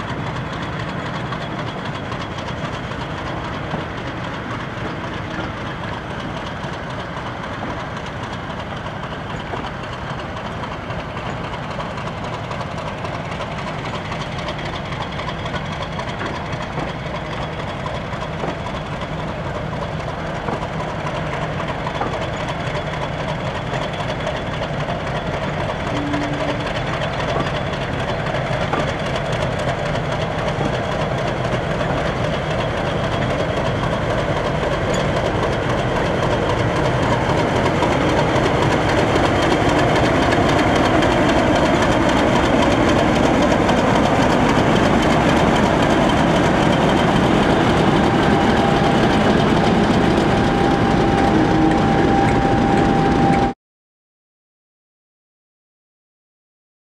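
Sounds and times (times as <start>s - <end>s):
train wheels clicking over rails: 0.0s - 53.5s
diesel locomotive engine running: 0.0s - 53.6s.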